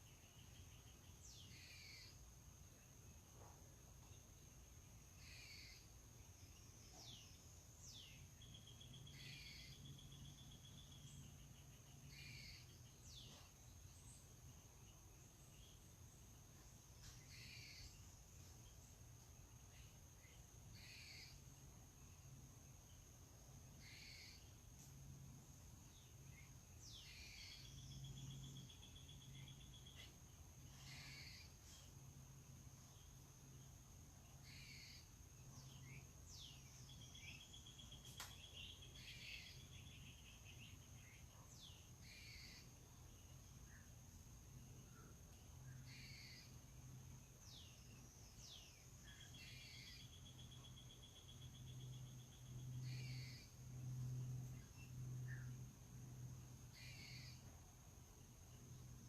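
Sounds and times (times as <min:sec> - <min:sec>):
faint songbirds calling: 0:00.0 - 0:59.0.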